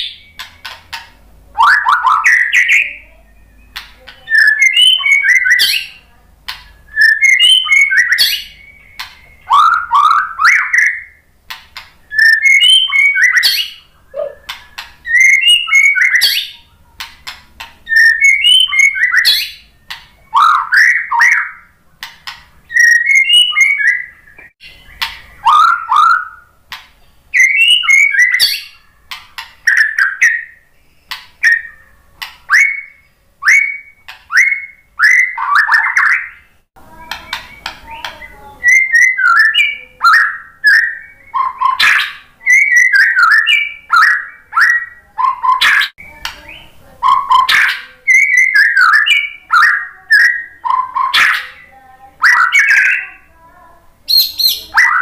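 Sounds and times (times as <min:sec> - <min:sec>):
bird singing whistled notes: 0:00.0 - 0:00.8, 0:01.6 - 0:11.3, 0:12.0 - 0:16.8, 0:17.8 - 0:21.8, 0:22.6 - 0:26.6, 0:27.3 - 0:53.3, 0:54.0 - 0:55.0.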